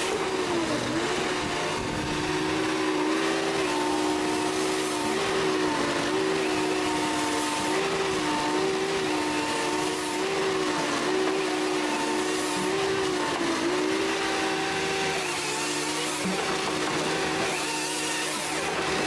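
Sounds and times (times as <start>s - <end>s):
machine motor droning: 0.0s - 19.0s.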